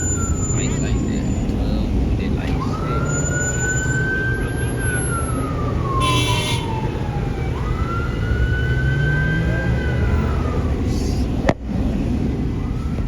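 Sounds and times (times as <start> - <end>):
low rumble of engines: 0.0 - 13.0
police siren wailing: 0.0 - 13.0.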